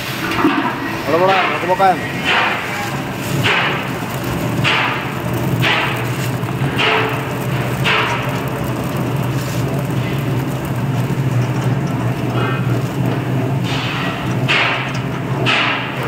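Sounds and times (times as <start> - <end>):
grain spilling in rasping rush: 0.0 - 14.2
machine motor hum: 0.0 - 16.0.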